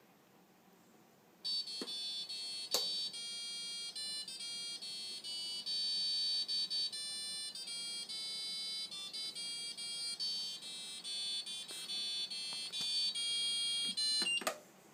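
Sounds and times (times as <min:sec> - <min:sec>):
washing machine beeper tune: 0:01.4 - 0:14.5.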